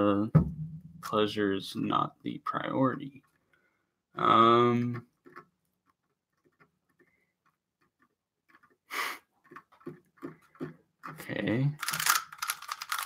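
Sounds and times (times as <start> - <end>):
faint clicks and taps: 2.2 - 13.0.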